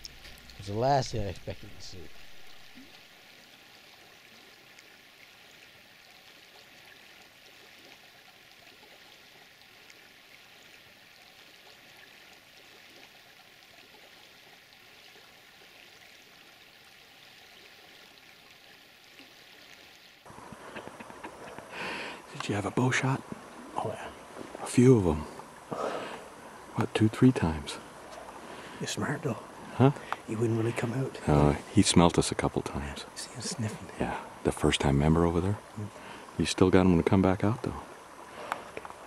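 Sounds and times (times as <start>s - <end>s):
water trickling from moose drinking: 0.0s - 39.0s.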